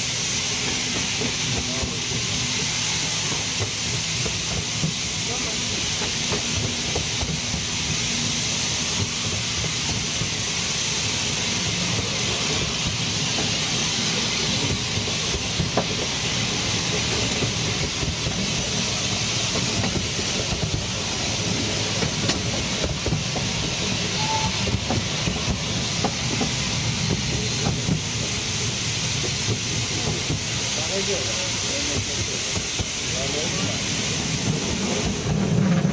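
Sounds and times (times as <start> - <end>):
steam train hiss: 0.0 - 35.9
wheels rattling on rails: 0.0 - 35.9.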